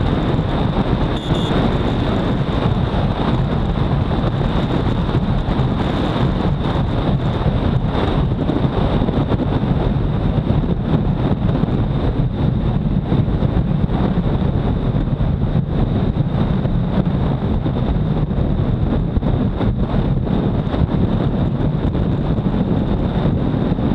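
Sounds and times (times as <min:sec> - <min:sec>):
motorcycle engine drone: 0:00.0 - 0:23.9
wind buffeting microphone: 0:00.0 - 0:23.9.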